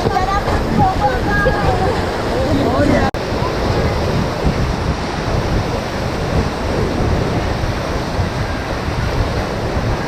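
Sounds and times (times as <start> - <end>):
rushing river whitewater: 0.0 - 10.0
wind buffeting microphone: 0.0 - 10.0.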